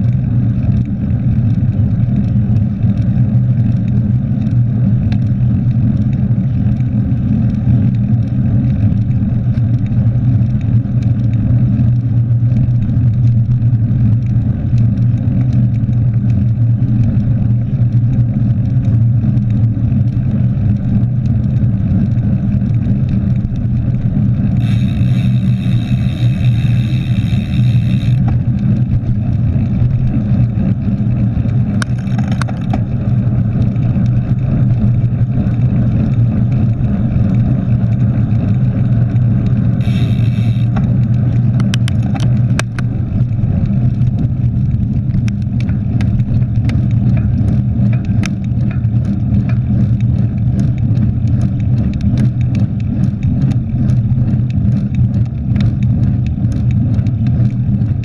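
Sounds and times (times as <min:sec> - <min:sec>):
bike rattling over bumps: 0:00.0 - 0:58.0
wind and tyre rumble: 0:00.0 - 0:58.0.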